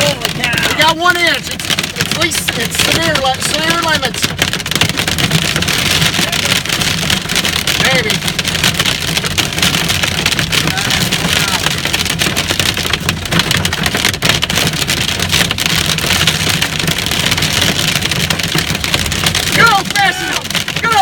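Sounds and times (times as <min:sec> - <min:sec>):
hail clattering on a roof: 0:00.0 - 0:21.0.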